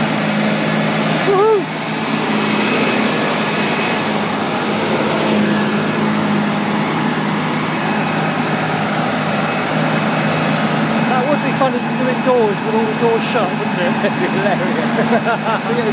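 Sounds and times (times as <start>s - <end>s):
diesel truck engine at high revs: 0.0s - 15.9s.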